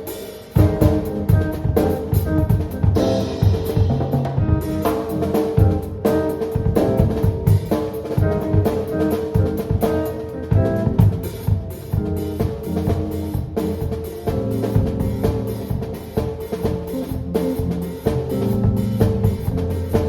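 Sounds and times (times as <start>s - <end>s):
drum kit beat: 0.0s - 20.0s
live band playing: 0.0s - 20.0s.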